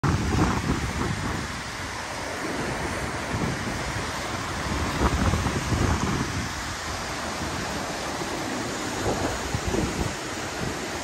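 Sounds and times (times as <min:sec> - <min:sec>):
waves breaking on rocky shore: 0:00.0 - 0:11.0
wind buffeting microphone: 0:00.0 - 0:11.0.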